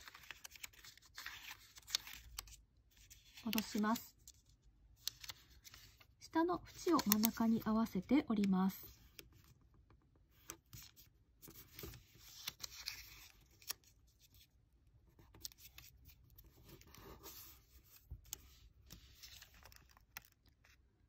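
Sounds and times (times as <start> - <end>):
paper folding and rustling: 0.0 - 8.1, 10.3 - 14.6, 15.2 - 20.9.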